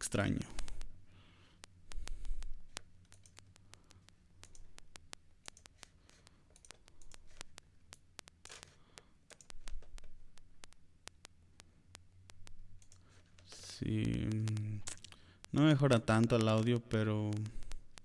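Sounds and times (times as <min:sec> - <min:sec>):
low steady hum: 0:00.0 - 0:18.0
sharp clicks and crackles: 0:01.5 - 0:18.0.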